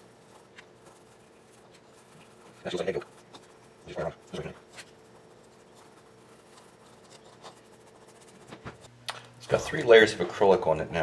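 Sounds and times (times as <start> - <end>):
paintbrush bristles scratching: 0.0 - 8.9.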